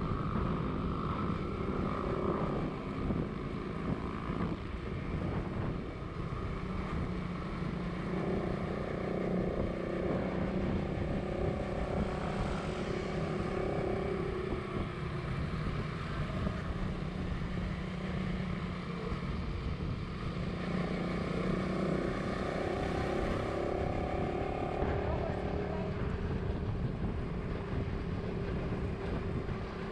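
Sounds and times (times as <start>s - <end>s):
motorcycle engine cruising: 0.0s - 29.9s
road and wind noise: 0.0s - 29.9s.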